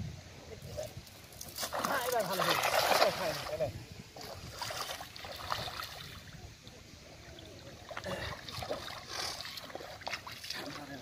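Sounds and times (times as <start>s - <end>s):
shallow water splashing: 1.3s - 6.4s, 7.2s - 11.0s.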